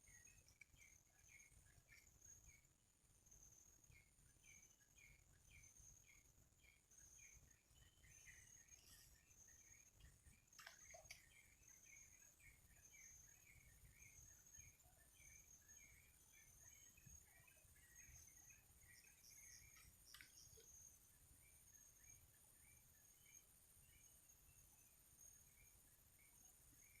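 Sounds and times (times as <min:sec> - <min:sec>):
bird chirping: 0:00.0 - 0:02.7, 0:03.3 - 0:24.1.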